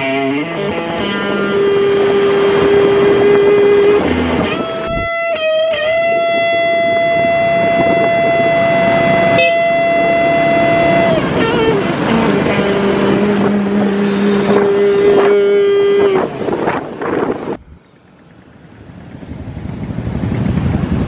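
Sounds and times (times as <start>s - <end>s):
distorted electric guitar notes: 0.0s - 17.6s
road traffic noise: 0.0s - 21.0s.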